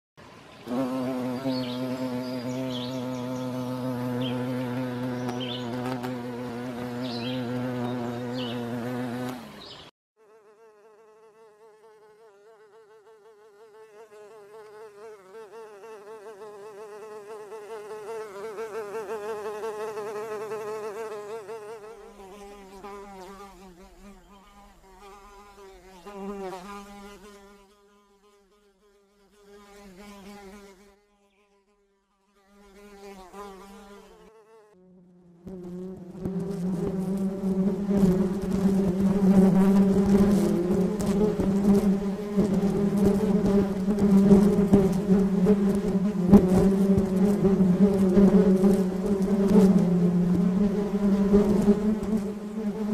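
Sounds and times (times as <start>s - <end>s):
loud low insect buzz: 0.2s - 52.9s
housefly buzzing: 0.5s - 52.9s.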